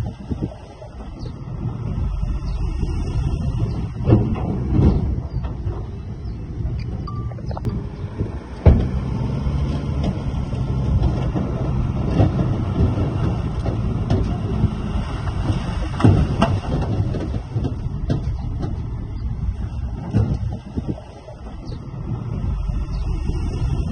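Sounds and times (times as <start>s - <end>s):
heavy diesel machinery running: 0.0s - 23.9s.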